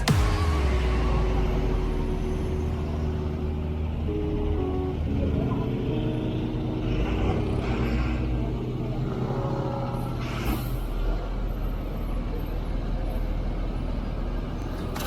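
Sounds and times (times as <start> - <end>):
low traffic rumble: 0.0 - 15.0
vehicle engine running close by: 0.0 - 15.0.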